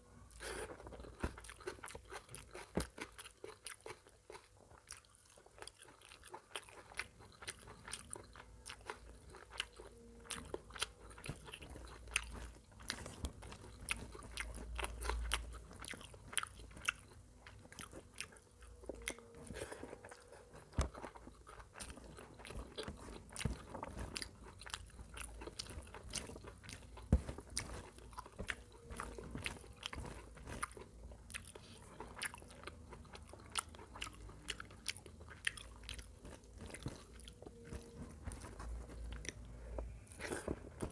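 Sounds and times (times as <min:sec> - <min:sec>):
close chewing with mouth clicks: 0:00.3 - 0:40.9.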